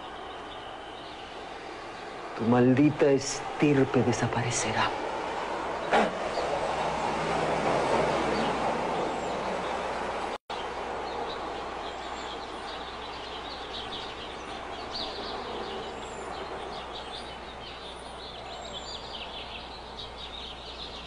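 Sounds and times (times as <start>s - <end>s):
birds chirping and twittering: 0.0s - 21.0s
outdoor background noise: 0.0s - 21.0s.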